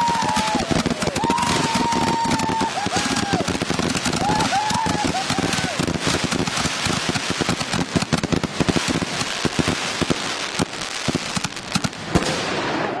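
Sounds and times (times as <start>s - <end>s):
firework bangs: 0.0s - 13.0s
firework crackling: 0.0s - 13.0s.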